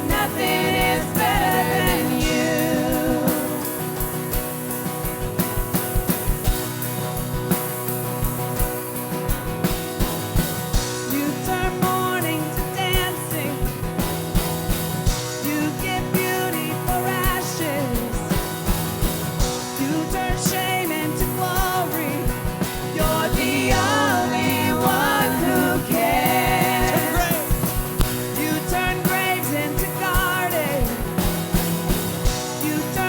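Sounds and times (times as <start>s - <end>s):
drum kit beat: 0.0s - 33.0s
keyboard and guitar chords: 0.0s - 33.0s.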